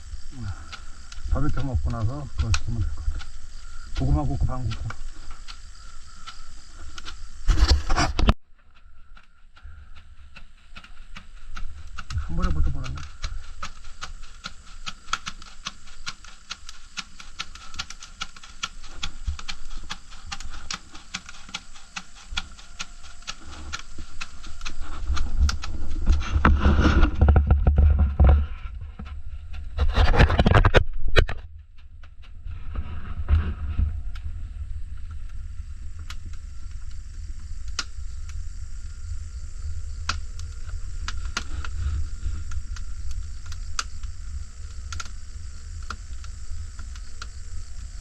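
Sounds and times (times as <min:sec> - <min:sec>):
firewood crackling: 0:00.0 - 0:48.0
rustling noise with low rumble: 0:00.0 - 0:48.0.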